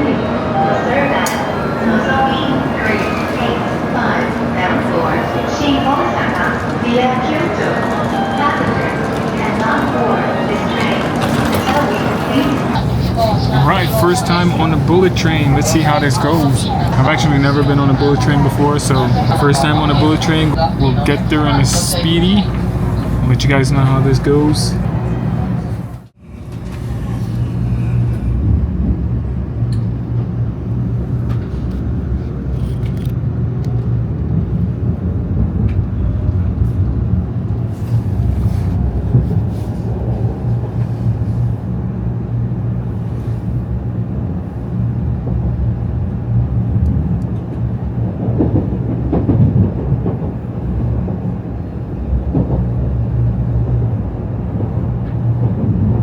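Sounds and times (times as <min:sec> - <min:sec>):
train running rumble: 0:01.1 - 0:56.0.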